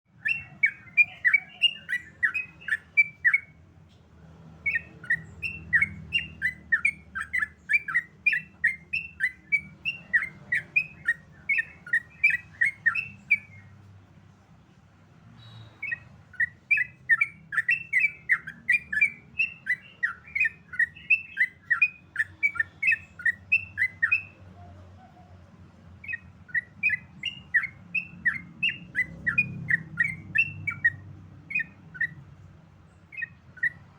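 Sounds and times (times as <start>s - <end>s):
bird singing fast chirps: 0.1s - 3.6s, 4.5s - 13.9s, 15.3s - 33.9s.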